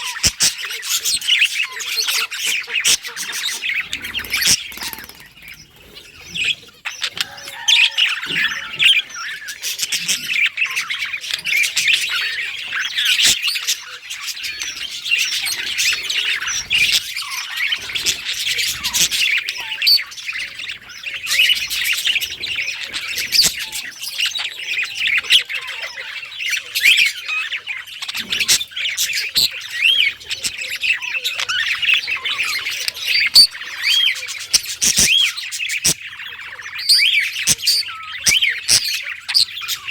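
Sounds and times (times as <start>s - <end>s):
budgerigars warbling and chirping: 0.0s - 39.9s.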